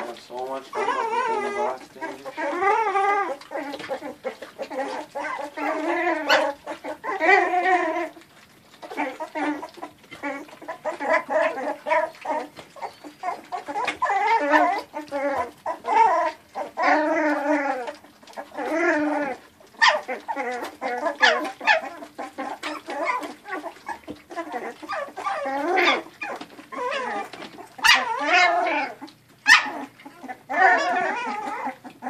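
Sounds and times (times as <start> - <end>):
puppies whining and yelping: 0.0 - 32.0.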